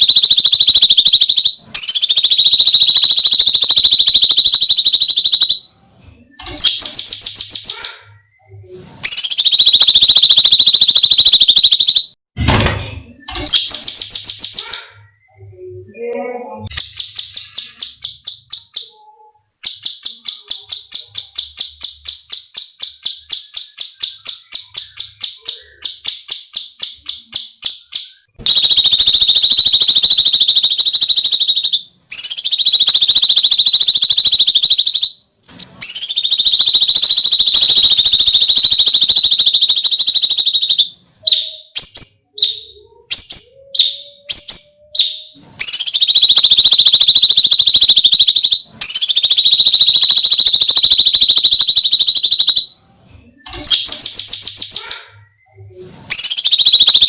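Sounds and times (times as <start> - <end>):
songbird sharp repeated notes: 0.0 - 12.2, 16.6 - 35.2, 35.8 - 55.4, 56.1 - 57.0.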